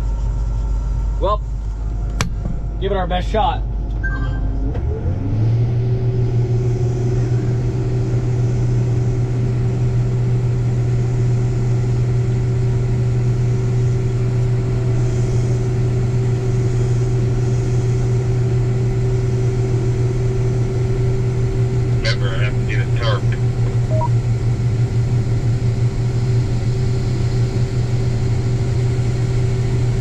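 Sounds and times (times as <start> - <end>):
combine engine droning: 0.0 - 30.0.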